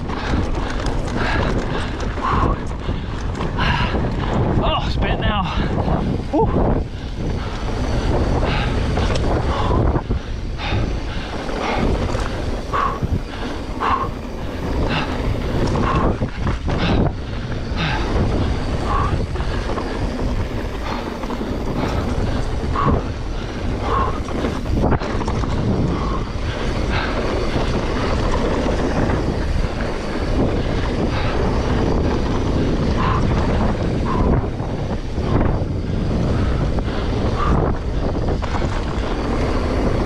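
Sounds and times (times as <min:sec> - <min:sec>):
bike rattling over bumps: 0:00.0 - 0:40.0
bike tyres rumbling on dirt: 0:00.0 - 0:40.0
wind buffeting microphone: 0:00.0 - 0:40.0.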